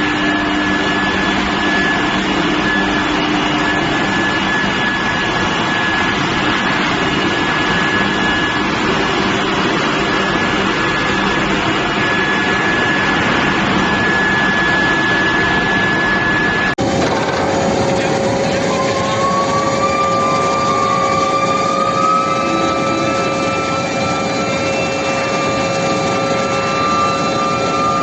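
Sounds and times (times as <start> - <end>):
high-pitched whine: 0.0 - 28.0
loud furnace machine noise: 0.0 - 28.0.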